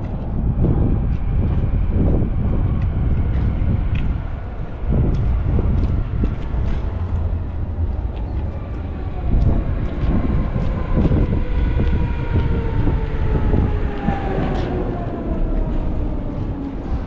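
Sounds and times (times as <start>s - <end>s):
large vehicle passing: 0.0s - 17.0s.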